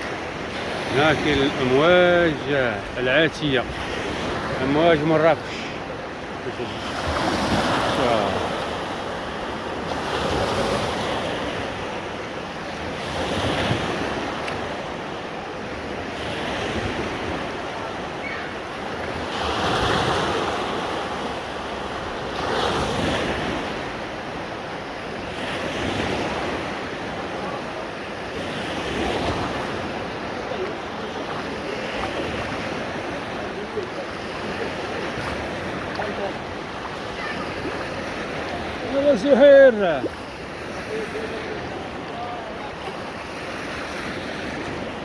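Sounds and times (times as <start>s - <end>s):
waves surging in a wave pool: 0.0s - 45.0s.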